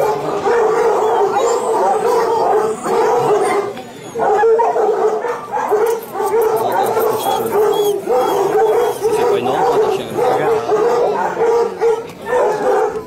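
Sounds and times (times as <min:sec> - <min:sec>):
hounds baying and howling: 0:00.0 - 0:13.0.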